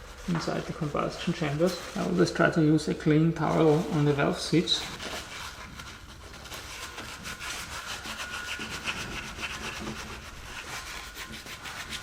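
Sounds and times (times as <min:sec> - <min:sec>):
paper towel scrubbing metal: 0:00.0 - 0:12.0.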